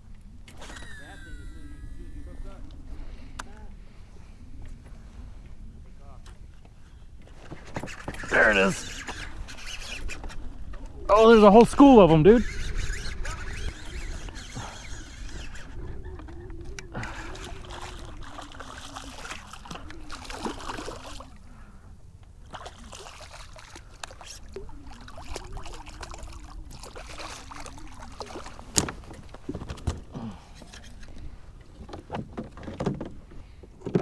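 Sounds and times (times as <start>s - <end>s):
wavering low hum: 0.0s - 31.7s
water lapping around kayak hull: 0.0s - 34.0s.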